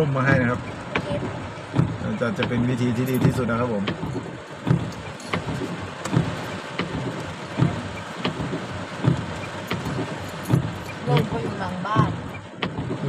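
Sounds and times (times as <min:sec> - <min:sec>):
heavy rain on a car: 0:00.0 - 0:13.0.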